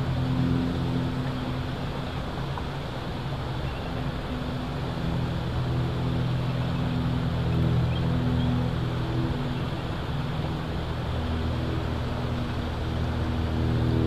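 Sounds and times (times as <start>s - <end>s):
constant rushing noise: 0.0s - 14.0s
low engine drone: 0.0s - 14.0s.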